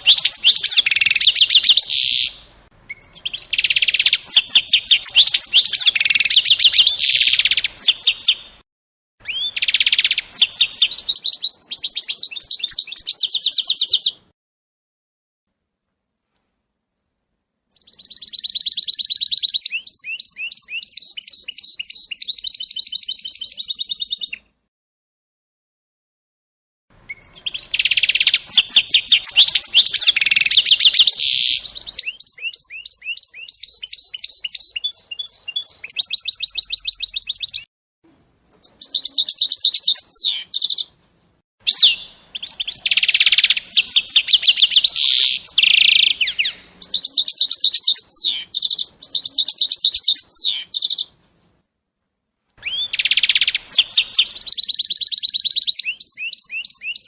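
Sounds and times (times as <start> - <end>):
songbird trilling: 0.0 - 8.6, 9.2 - 14.2, 17.7 - 24.4, 27.1 - 37.7, 38.5 - 40.9, 41.7 - 51.1, 52.6 - 57.0.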